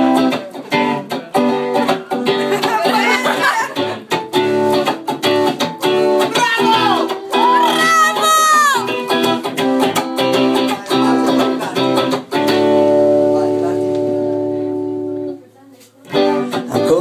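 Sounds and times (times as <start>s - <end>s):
acoustic guitar strumming: 0.0s - 15.5s, 16.1s - 17.0s.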